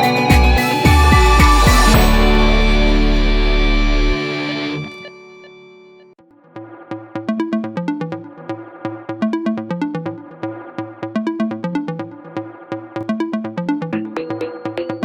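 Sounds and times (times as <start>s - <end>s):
electronic music with bass line: 0.0s - 5.6s, 6.4s - 15.0s.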